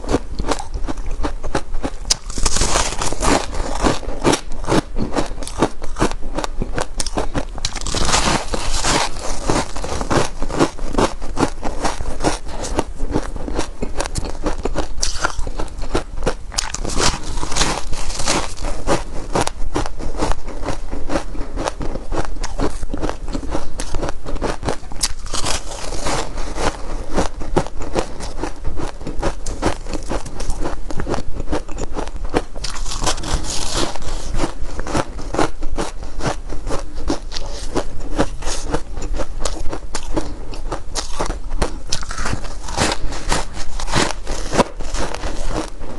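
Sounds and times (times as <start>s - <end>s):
chewing shaved ice crunching: 0.0s - 45.9s.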